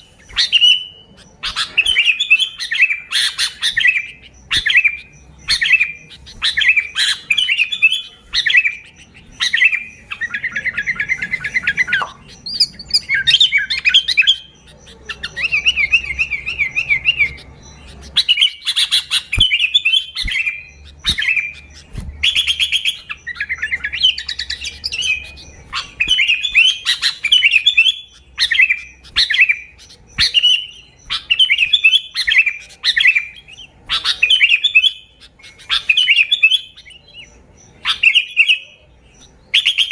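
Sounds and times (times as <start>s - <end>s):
bird chirping: 0.0s - 39.9s
bird trills: 0.0s - 39.9s.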